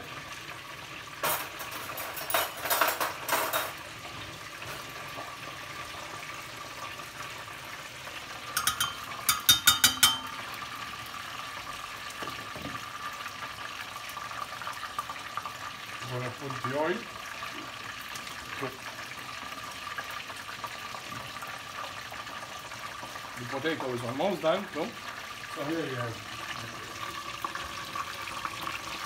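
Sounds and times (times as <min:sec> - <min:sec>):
food sizzling and bubbling in oil: 0:00.0 - 0:29.0.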